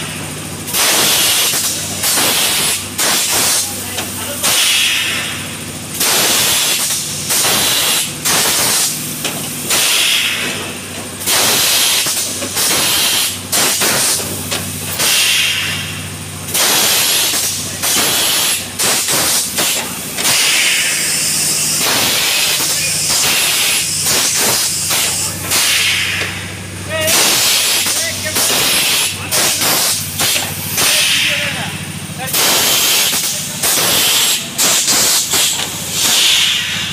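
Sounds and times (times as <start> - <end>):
compressed air hissing bursts: 0.0 - 36.9
steady low hum: 0.0 - 36.9.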